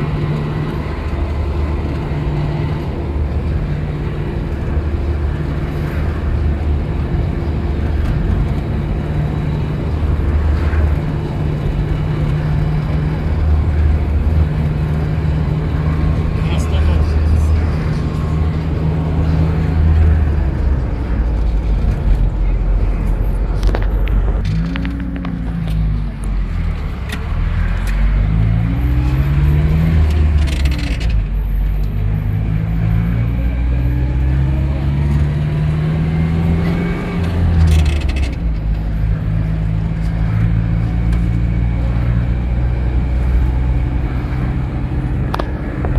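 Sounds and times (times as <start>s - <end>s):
minibus engine and road drone: 0.0s - 45.9s.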